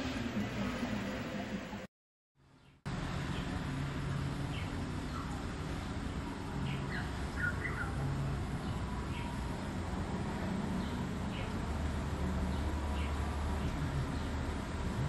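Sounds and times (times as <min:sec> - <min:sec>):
steady low hum: 0:00.0 - 0:15.0
small birds chirping: 0:02.4 - 0:15.0.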